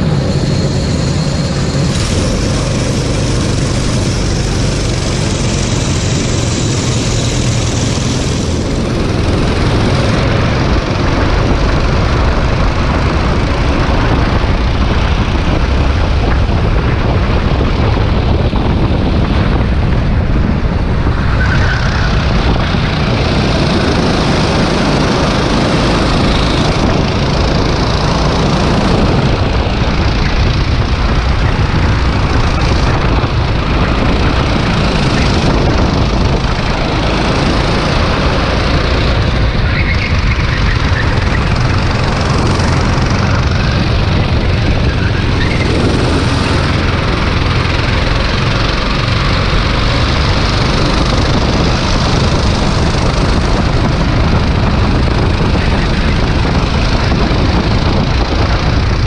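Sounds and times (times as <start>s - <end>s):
other karts passing: 0.0s - 59.0s
racing kart engine: 0.0s - 59.0s.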